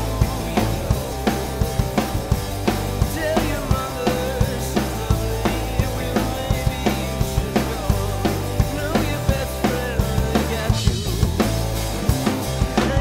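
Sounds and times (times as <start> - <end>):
man singing: 0.0 - 2.1, 2.9 - 11.7, 12.6 - 13.0
bass notes: 0.0 - 13.0
drum kit beat: 0.0 - 13.0
guitar: 0.0 - 13.0.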